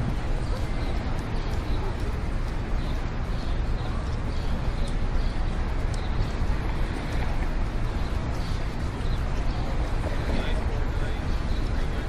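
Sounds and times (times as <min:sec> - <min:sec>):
street noise: 0:00.0 - 0:12.0
traffic rumble: 0:00.0 - 0:12.0.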